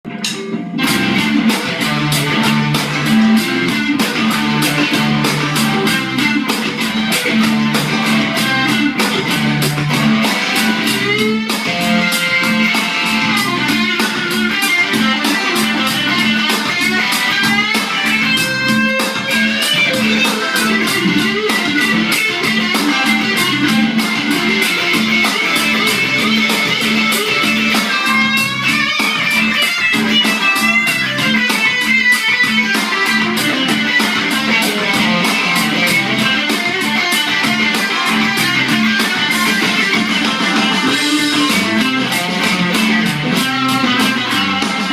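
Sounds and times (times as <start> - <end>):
electric guitar playing: 0.0 - 44.9
steady beat: 0.0 - 44.9.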